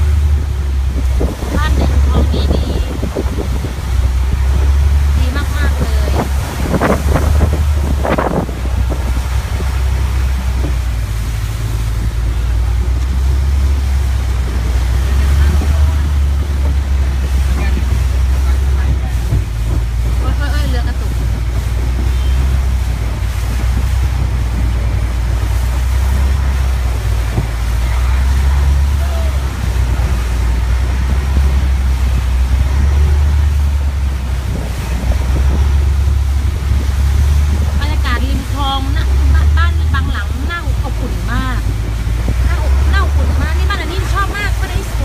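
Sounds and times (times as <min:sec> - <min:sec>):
boat engine droning: 0:00.0 - 0:45.0
water washing along hull: 0:00.0 - 0:45.0
wind buffeting microphone: 0:00.0 - 0:45.0.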